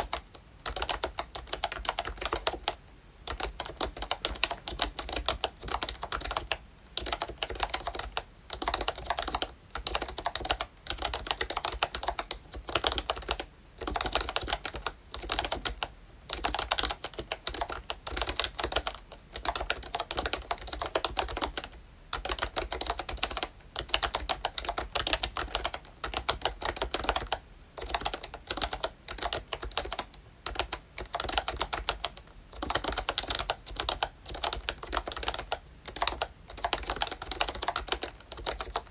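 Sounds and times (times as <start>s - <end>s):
keyboard typing clacks: 0.0s - 38.9s.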